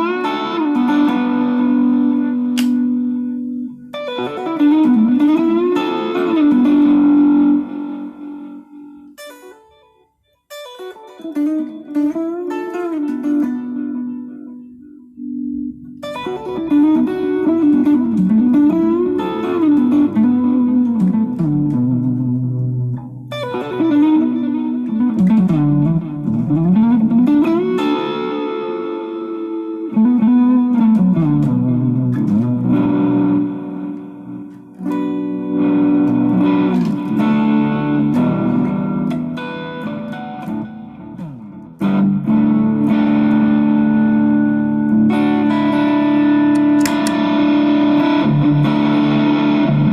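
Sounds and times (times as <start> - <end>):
electric guitar lead phrases: 0.0 - 49.9.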